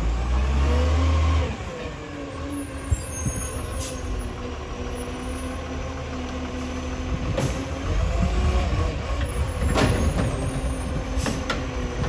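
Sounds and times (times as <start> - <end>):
diesel truck engine running: 1.4 - 12.0.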